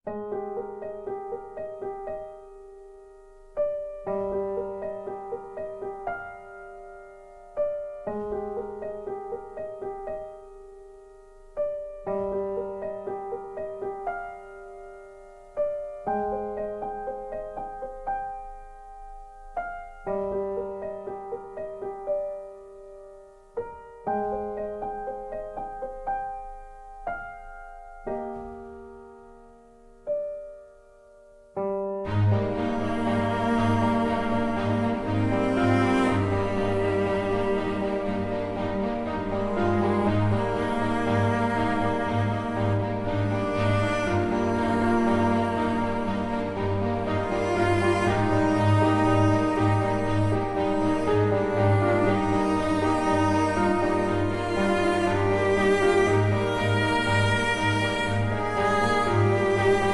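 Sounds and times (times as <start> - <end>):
calm piano music: 0.0 - 59.9.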